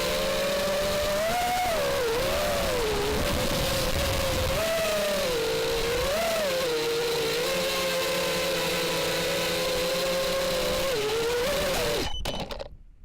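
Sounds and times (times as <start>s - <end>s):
quadcopter motors whining: 0.0s - 12.7s.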